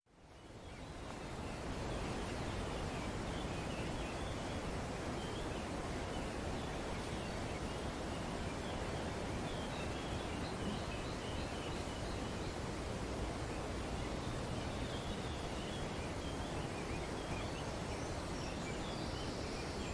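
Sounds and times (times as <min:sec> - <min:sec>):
wind rustling foliage: 0:00.1 - 0:19.9.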